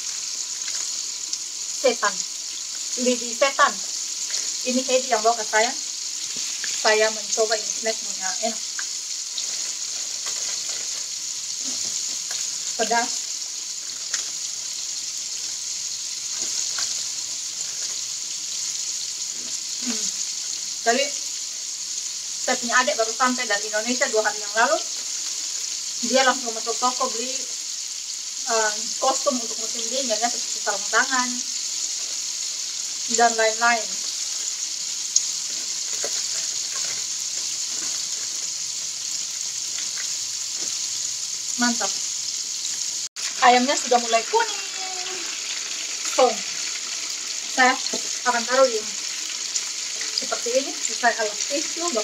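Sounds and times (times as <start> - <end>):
chicken frying in hot oil: 0.0 - 52.0.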